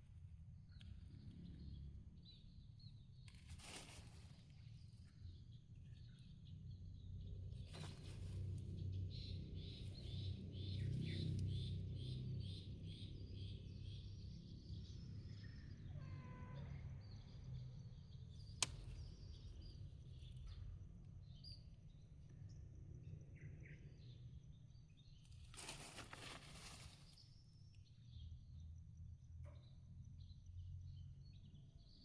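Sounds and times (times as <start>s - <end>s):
small birds chirping: 0.6s - 32.0s.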